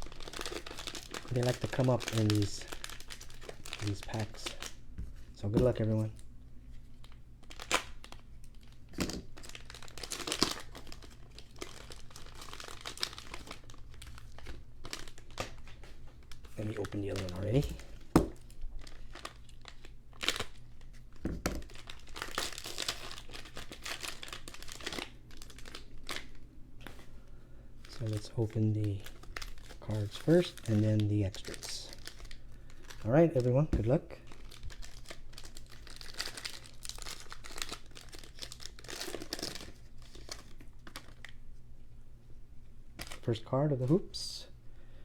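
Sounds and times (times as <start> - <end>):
wrapper tearing and crinkling: 0.0 - 6.2, 6.9 - 27.0, 27.8 - 41.4, 43.0 - 43.3.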